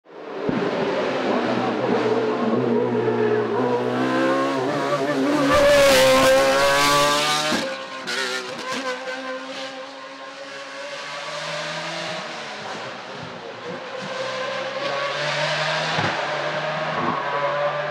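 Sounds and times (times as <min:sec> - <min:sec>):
race car engine at full throttle: 0:00.0 - 0:17.9.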